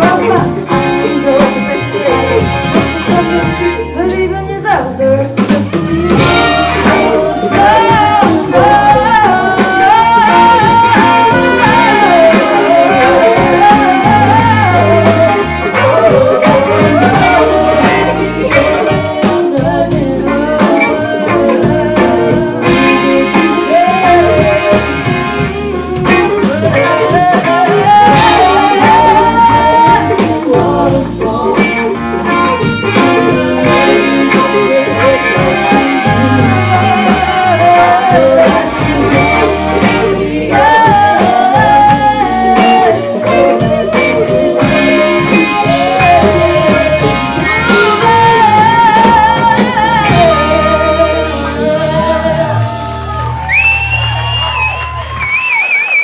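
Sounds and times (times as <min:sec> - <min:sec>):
woman singing lead vocals: 0:00.0 - 0:55.0
live band playing pop r and b: 0:00.0 - 0:56.0.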